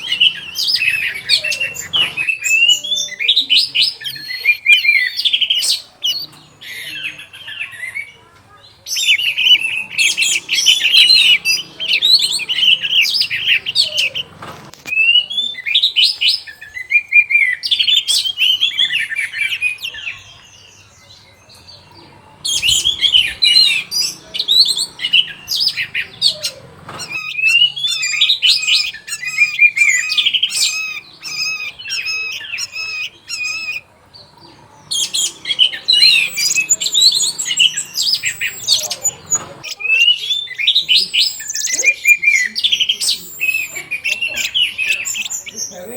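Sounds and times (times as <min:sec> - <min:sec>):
thrush singing: 0:00.0 - 0:45.9.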